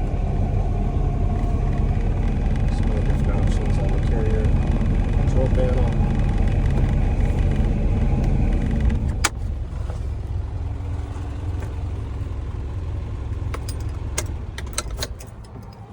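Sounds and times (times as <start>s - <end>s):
truck engine idling: 0.0s - 15.9s.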